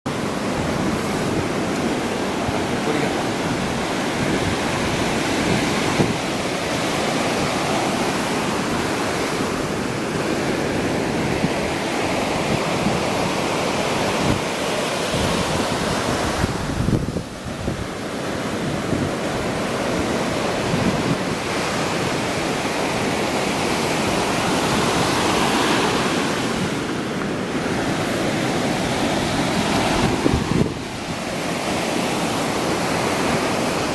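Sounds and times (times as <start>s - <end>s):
waves breaking on beach: 0.1s - 33.9s
wind buffeting microphone: 0.1s - 33.9s.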